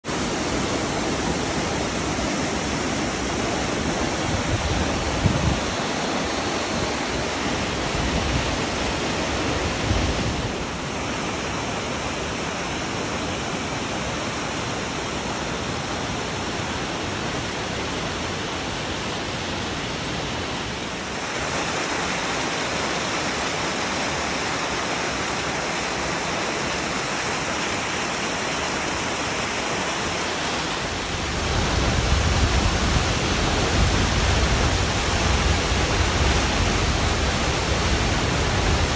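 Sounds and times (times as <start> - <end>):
roar of rushing water: 0.0 - 38.9.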